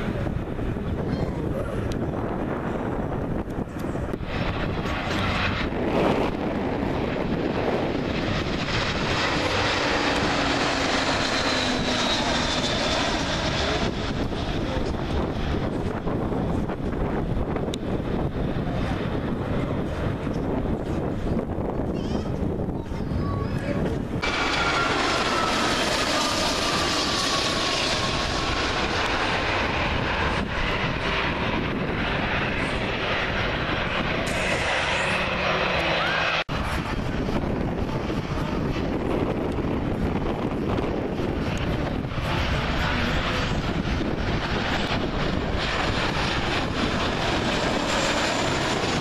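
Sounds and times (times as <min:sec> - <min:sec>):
jet airliner passing overhead: 0:00.0 - 0:49.0.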